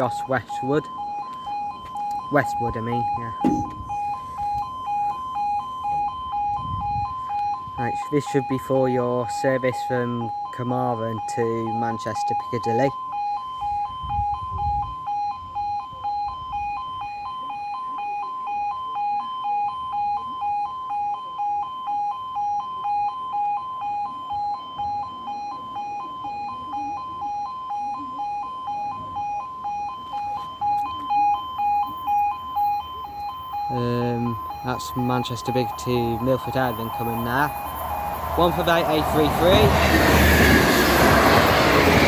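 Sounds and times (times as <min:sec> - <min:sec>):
two-tone crossing alarm: 0:00.0 - 0:42.0.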